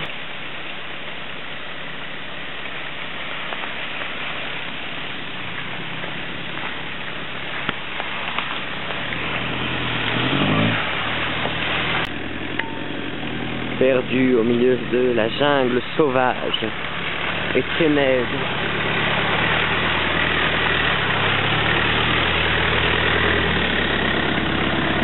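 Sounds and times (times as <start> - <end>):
off-road vehicle engine running: 4.6 - 25.0.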